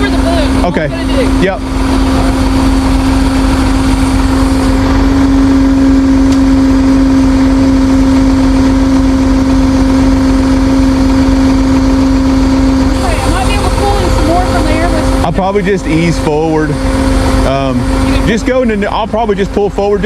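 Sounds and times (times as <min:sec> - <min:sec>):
truck engine with hydraulic pump: 0:00.0 - 0:20.0.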